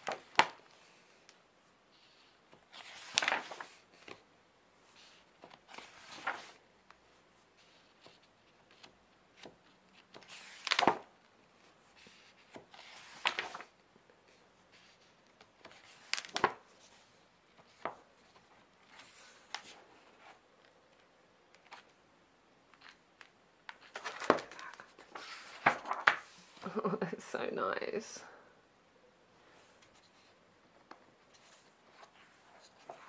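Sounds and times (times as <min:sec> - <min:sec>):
book pages turning: 0:00.0 - 0:01.4, 0:02.0 - 0:13.8, 0:14.4 - 0:22.0, 0:22.7 - 0:26.8, 0:29.7 - 0:33.0.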